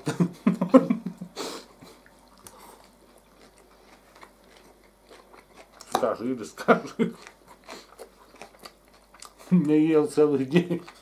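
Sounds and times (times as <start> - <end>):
soft chewing: 0.5 - 11.0.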